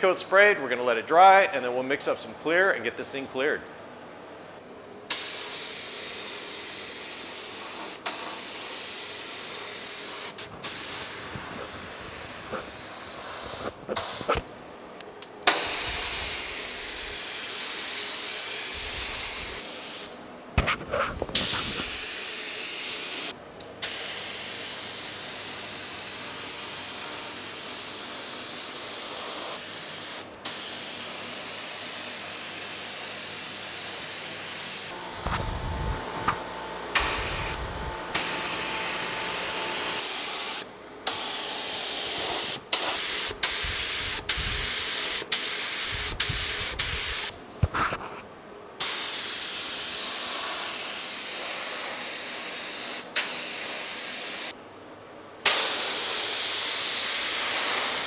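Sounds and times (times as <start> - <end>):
spray gun hissing: 5.1 - 14.4, 15.5 - 20.2, 21.4 - 35.0, 36.9 - 48.1, 48.8 - 54.6, 55.4 - 58.0.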